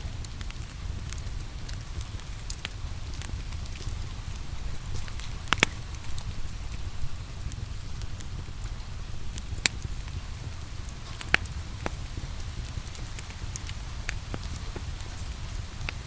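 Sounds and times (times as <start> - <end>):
low steady rumble: 0.0 - 16.0
rain hissing: 0.0 - 16.0
wood fire crackling and popping: 0.0 - 16.0.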